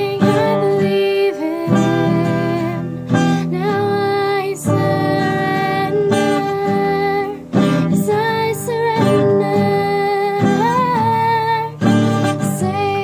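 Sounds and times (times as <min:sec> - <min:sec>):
acoustic guitar strumming: 0:00.0 - 0:13.0
woman singing long notes: 0:00.0 - 0:13.0.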